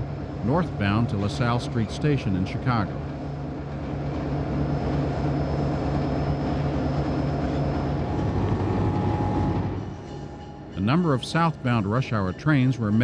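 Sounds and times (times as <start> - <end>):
locomotive drone: 0.0 - 13.0
train rumbling along: 0.0 - 13.0.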